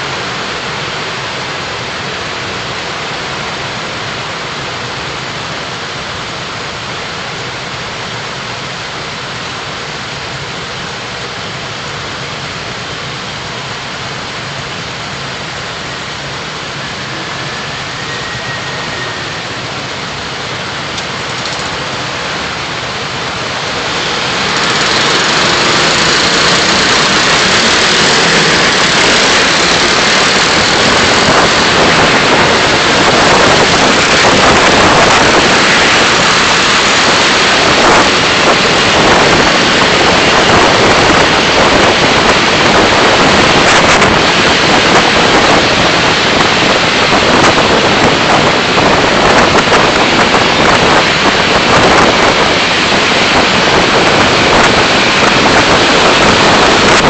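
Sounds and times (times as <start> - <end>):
car engine: 0.0 - 57.0
tyres on road: 0.0 - 57.0.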